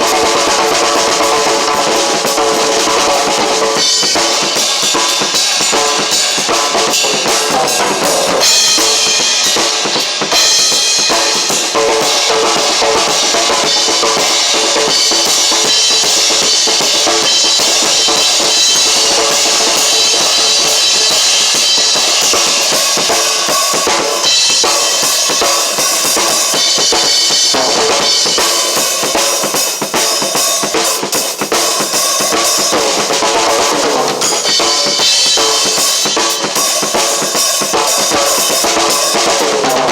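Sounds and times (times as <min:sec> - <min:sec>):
drum kit fast strokes: 0:00.0 - 0:39.9.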